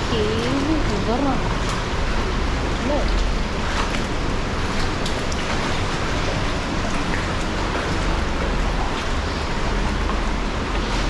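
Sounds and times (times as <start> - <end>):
faint water splashes: 0.0 - 11.0.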